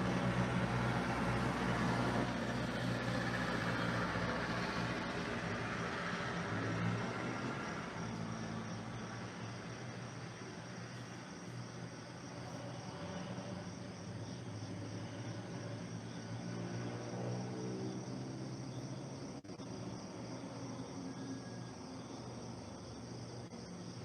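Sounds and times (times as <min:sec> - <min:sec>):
crickets chirping: 0:00.1 - 0:24.0.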